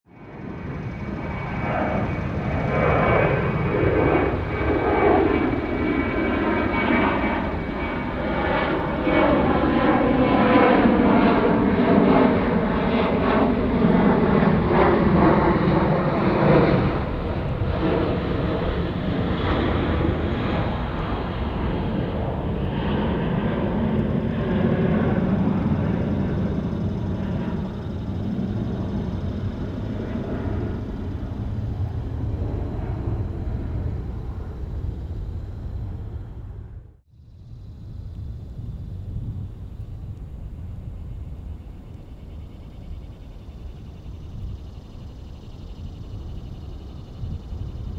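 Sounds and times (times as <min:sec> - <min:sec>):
jet engines roaring: 0:00.1 - 0:47.9.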